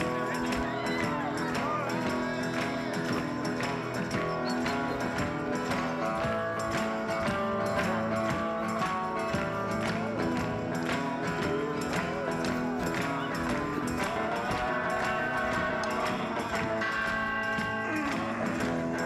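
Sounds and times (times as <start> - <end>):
background music with beat: 0.0 - 19.0.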